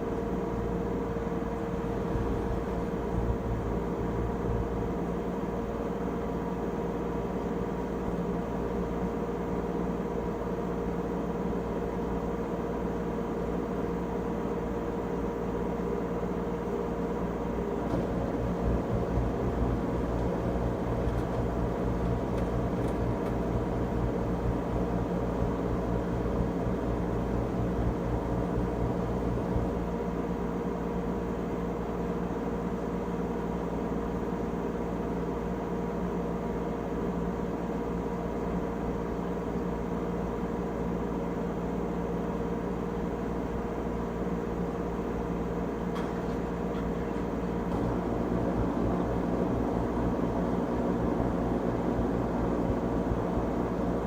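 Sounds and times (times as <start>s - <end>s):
washing machine low rumble: 0.0s - 54.0s
washing machine motor hum: 0.0s - 54.0s.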